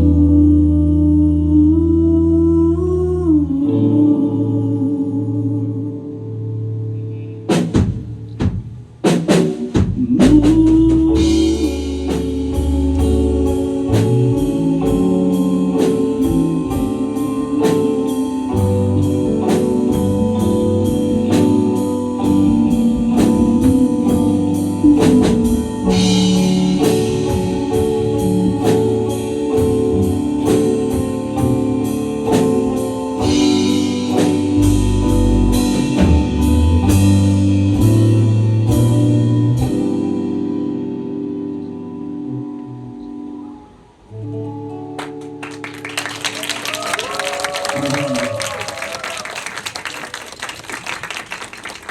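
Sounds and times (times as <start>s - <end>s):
band music: 7.3s - 42.6s, 43.2s - 51.9s.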